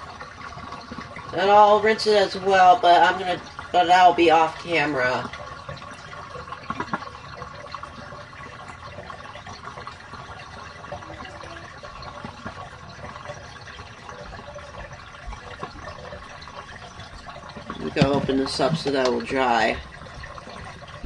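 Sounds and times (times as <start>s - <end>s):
water draining into sink: 0.0s - 21.0s.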